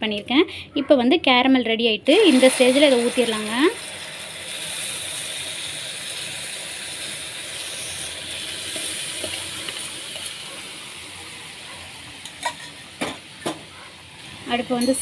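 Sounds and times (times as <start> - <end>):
milk hissing and bubbling in pan: 2.1 - 14.4.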